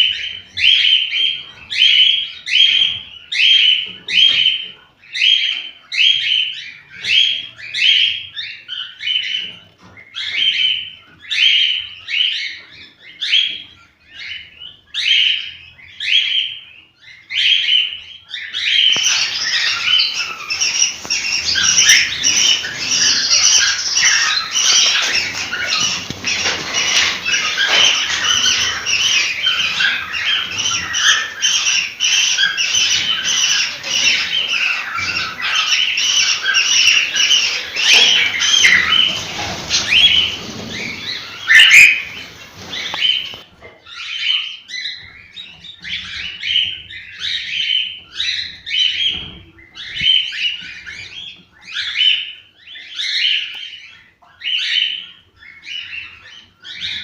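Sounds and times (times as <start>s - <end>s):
cockatiels chirping and squawking: 0.0s - 57.0s.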